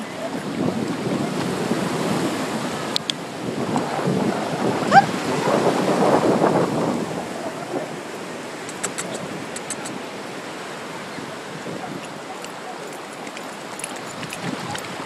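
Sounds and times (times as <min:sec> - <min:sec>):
surf washing over sand: 0:00.0 - 0:15.0
wind buffeting microphone: 0:00.0 - 0:15.0.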